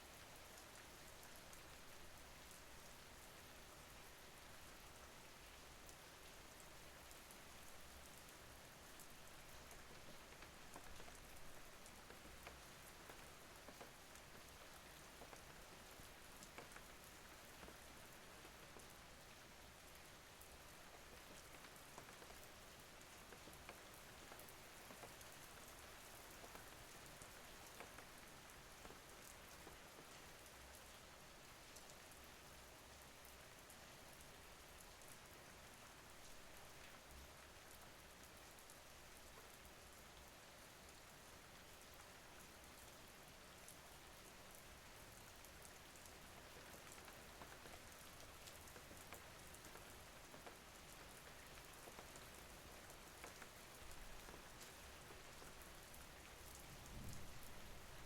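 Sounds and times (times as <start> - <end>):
faint steady rainfall: 0.0 - 58.0.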